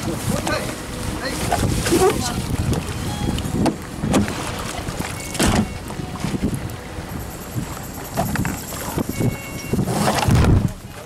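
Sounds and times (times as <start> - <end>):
water sloshing against hulls: 0.0 - 11.0
wind buffeting microphone: 0.0 - 11.0.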